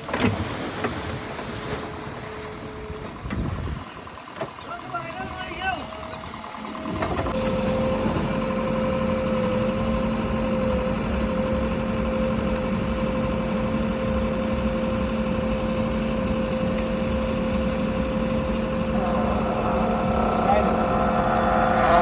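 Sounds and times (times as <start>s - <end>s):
heavy vehicle engine running: 1.8s - 22.0s.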